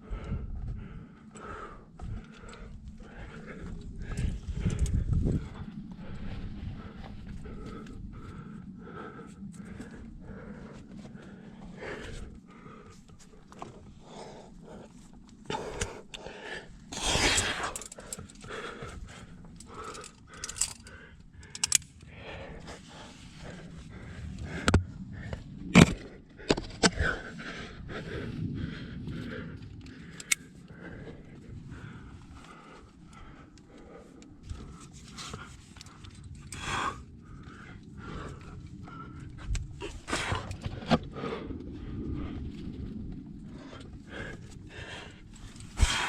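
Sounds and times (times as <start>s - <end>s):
person breathing hard: 0.0s - 46.0s.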